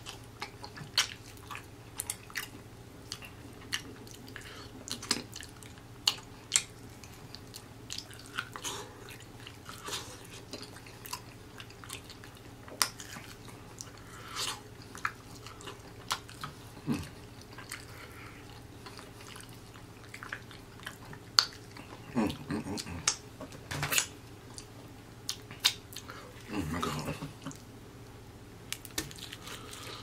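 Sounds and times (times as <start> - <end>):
crunchy biting and chewing: 0.0 - 23.2, 28.7 - 30.0.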